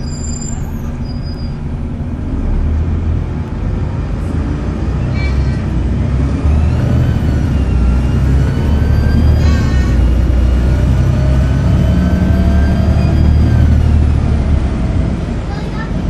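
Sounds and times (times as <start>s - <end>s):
diesel bus engine drone: 0.0s - 16.0s.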